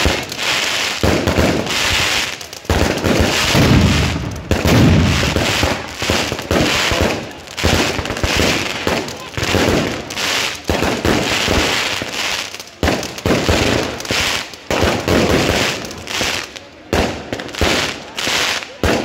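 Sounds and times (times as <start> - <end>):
fireworks banging and crackling: 0.0 - 19.0.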